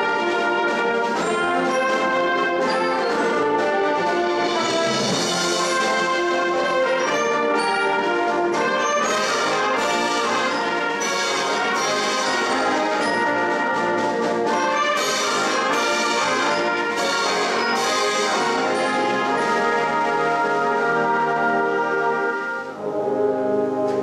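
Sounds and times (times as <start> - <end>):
concert band playing: 0.0 - 24.0.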